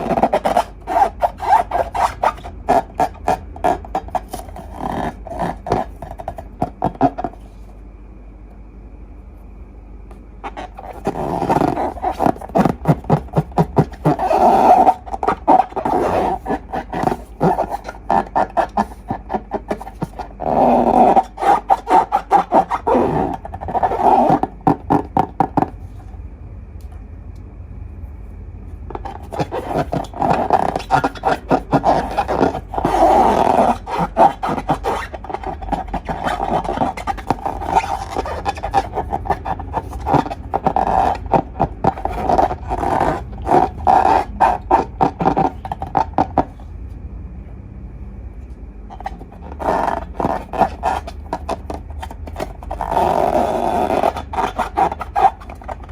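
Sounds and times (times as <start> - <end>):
slime and balloons squelching squeaking: 0.0 - 7.6, 10.4 - 25.9, 28.9 - 46.6, 48.9 - 55.9.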